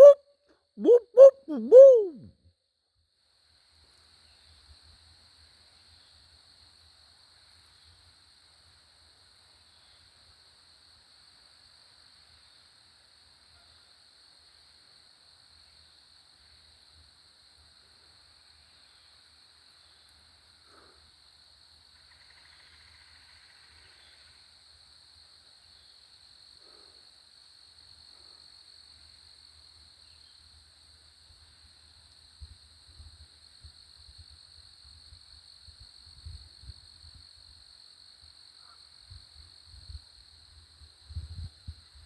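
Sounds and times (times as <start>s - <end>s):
crickets chirping: 0.0s - 0.2s, 0.8s - 2.2s, 4.1s - 42.0s.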